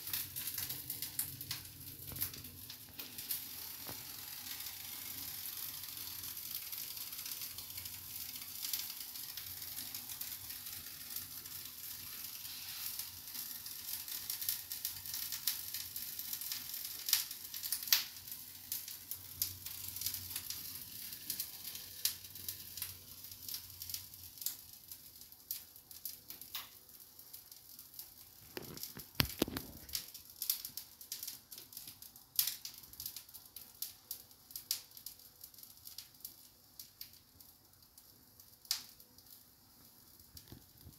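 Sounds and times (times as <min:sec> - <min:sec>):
food sizzling and crackling: 0:00.0 - 0:40.9.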